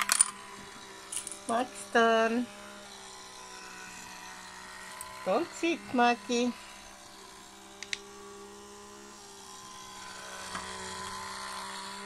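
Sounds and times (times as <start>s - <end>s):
small electric motor whirring: 0.0s - 12.0s.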